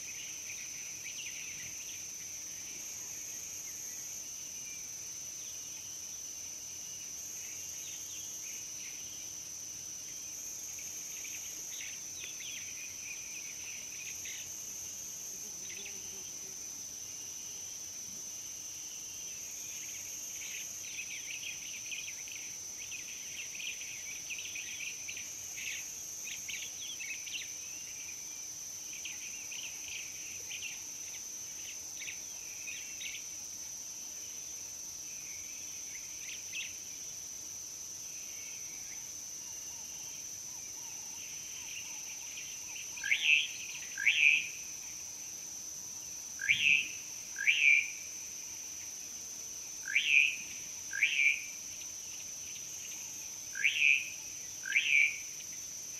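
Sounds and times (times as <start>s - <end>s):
high-pitched insect trill: 0.0s - 55.9s.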